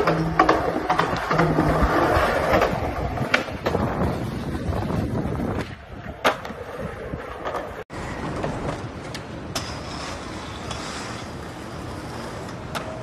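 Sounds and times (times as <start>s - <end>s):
skateboard clacking on ground: 0.0s - 13.0s
skateboard wheels rolling on concrete: 0.0s - 13.0s.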